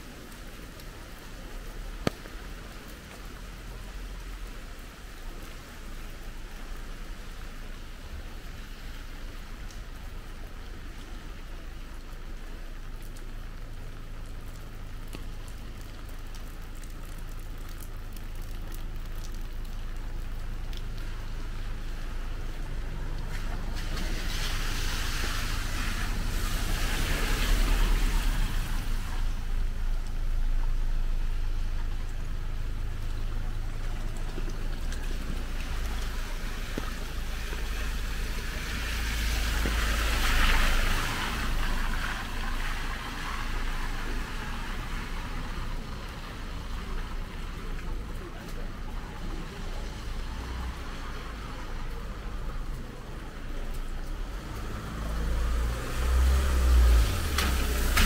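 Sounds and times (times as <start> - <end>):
heavy rain on a street: 0.0 - 58.0
tyres hissing on wet road: 0.0 - 58.0.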